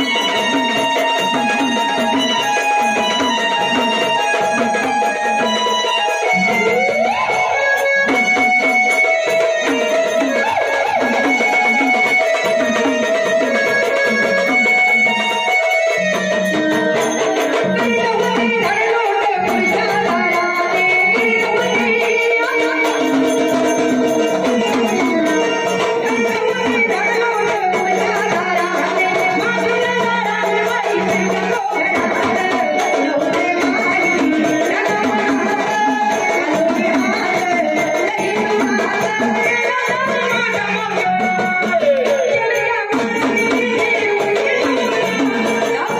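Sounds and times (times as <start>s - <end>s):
hand drum: 0.0s - 45.9s
rattling percussion: 0.0s - 45.9s.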